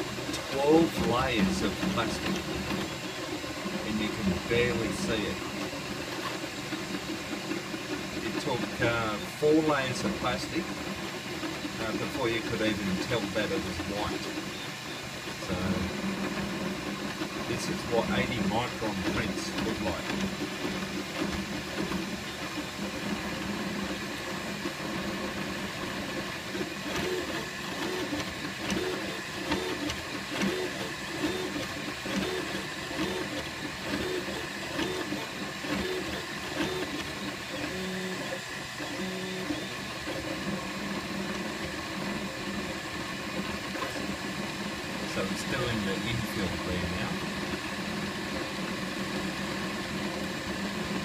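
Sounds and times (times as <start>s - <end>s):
printer hum and hiss: 0.0s - 51.0s
printer motor tones: 0.0s - 51.0s.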